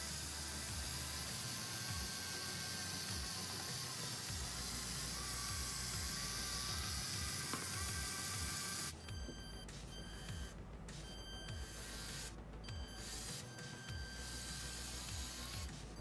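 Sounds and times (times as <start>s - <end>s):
small electric motors whirring: 0.0s - 9.0s, 11.4s - 16.0s.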